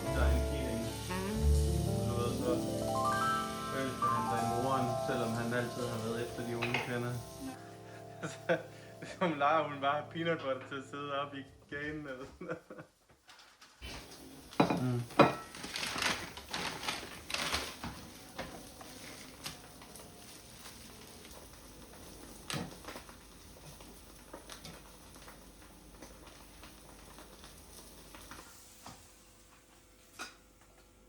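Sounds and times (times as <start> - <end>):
food frying in a pan: 0.0 - 10.2, 13.8 - 31.0.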